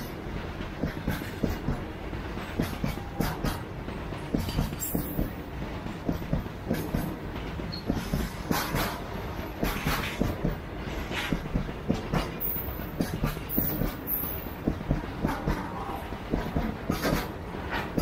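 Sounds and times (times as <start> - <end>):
freight train rumbling past: 0.0 - 18.0
wheels clattering over rail joints: 0.0 - 18.0.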